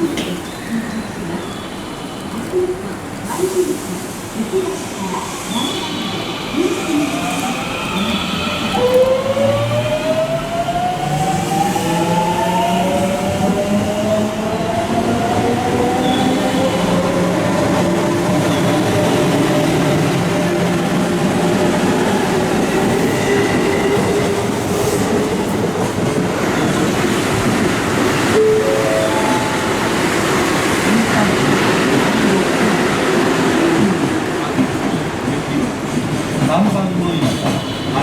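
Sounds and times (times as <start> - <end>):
train wheels on rails: 1.6 - 38.0.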